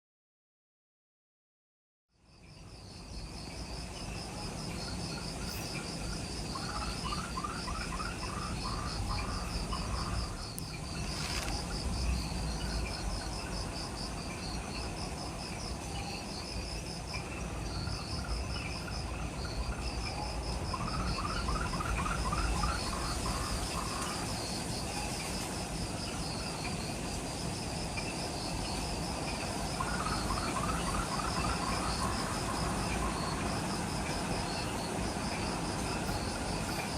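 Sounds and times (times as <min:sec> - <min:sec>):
insects chirping: 0:02.2 - 0:36.9
lower rattling insect trill: 0:02.2 - 0:36.9.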